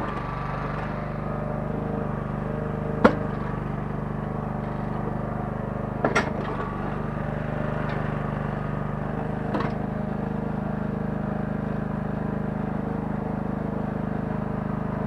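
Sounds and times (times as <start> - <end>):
small excavator engine running: 0.0 - 15.0.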